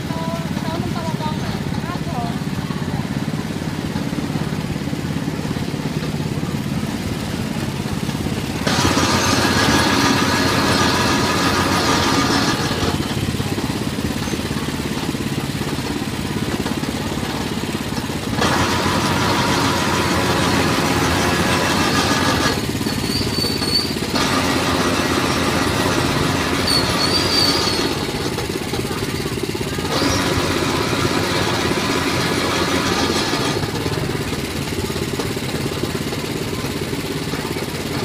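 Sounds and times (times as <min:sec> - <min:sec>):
juice press motor running: 0:00.0 - 0:38.0
stalks crushed through rollers: 0:00.0 - 0:38.0.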